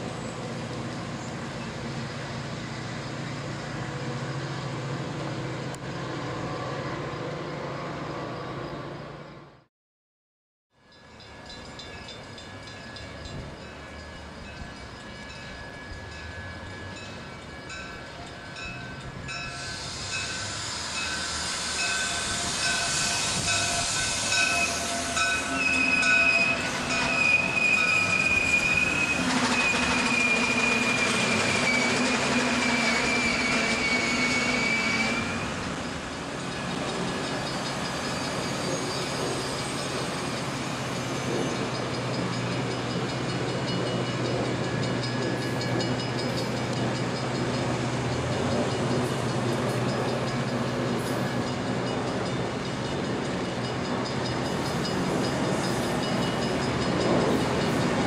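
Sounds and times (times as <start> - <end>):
high wavering train squeal: 0.0 - 9.7, 10.8 - 58.0
train rumbling along track: 0.0 - 9.7, 10.8 - 58.0.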